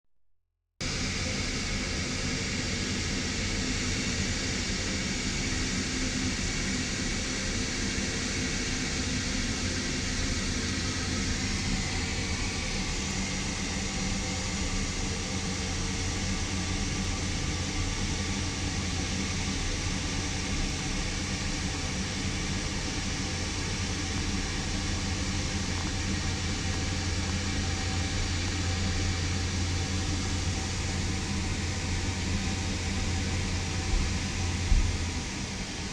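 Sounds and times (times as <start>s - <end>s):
steady mechanical drone: 0.8s - 35.9s
constant rushing hiss: 1.0s - 35.9s.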